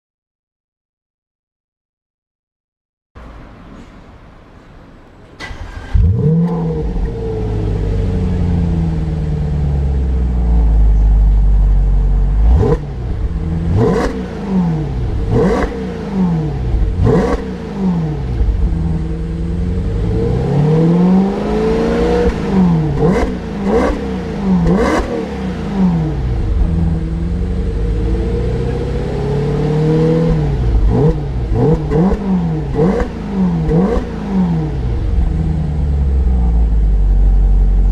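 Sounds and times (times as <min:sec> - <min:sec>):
car engine revving: 0:05.4 - 0:37.9.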